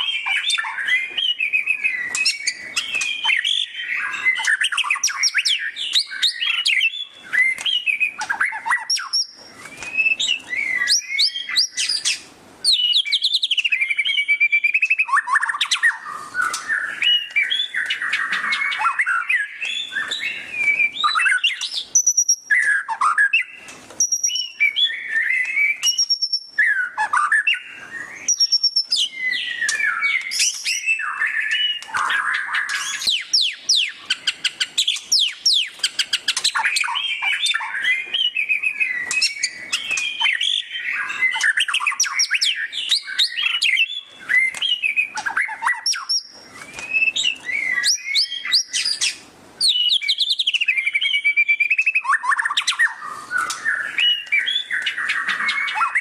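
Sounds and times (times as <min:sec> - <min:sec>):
bird singing with trills and whistles: 0:00.0 - 0:56.0.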